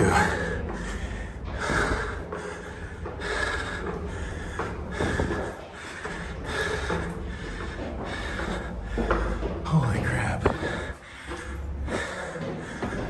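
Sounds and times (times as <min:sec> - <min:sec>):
man breathing hard: 0:00.0 - 0:09.6, 0:10.4 - 0:13.0.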